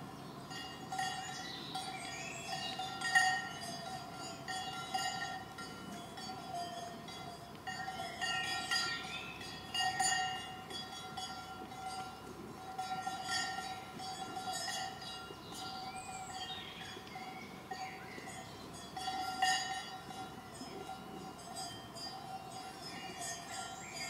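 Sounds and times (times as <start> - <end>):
cowbells clanging: 0.0 - 24.0.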